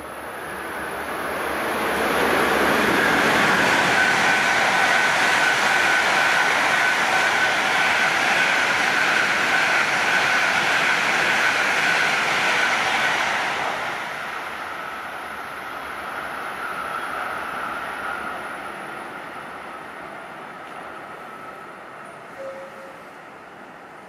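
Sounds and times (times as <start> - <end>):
high-speed train passing: 0.0 - 24.0.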